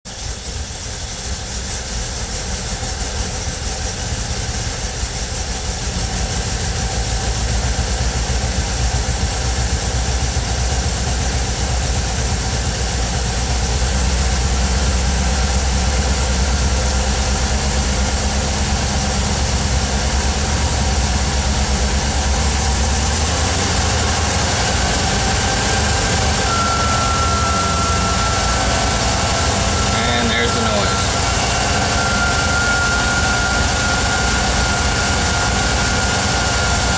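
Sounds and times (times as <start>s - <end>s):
van engine running: 0.1s - 36.9s.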